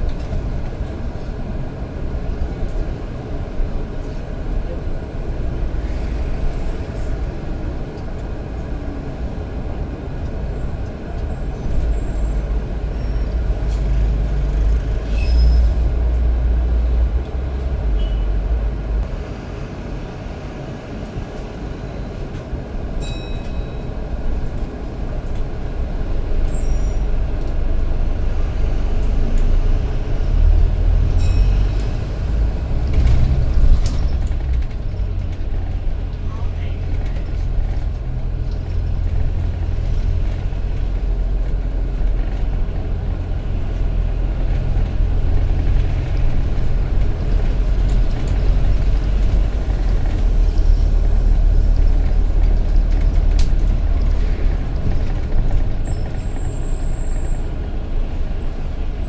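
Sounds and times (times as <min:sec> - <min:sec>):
bus engine rumbling: 0:00.0 - 0:59.0.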